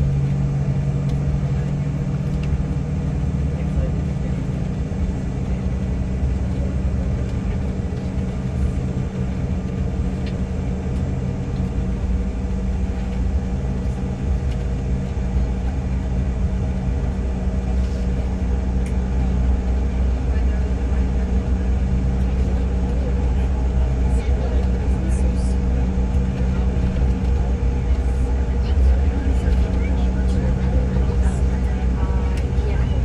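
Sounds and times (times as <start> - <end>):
airplane cabin drone: 0.0 - 33.0.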